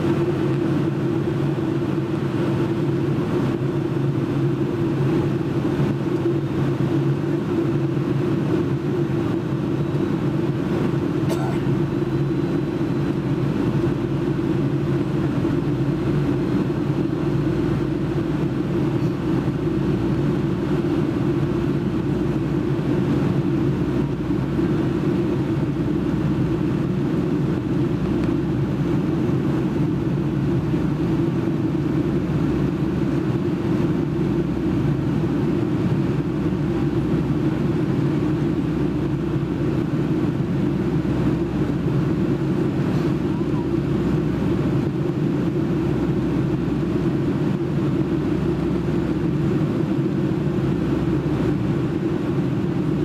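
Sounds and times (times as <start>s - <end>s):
airplane cabin engine drone: 0.0s - 53.0s.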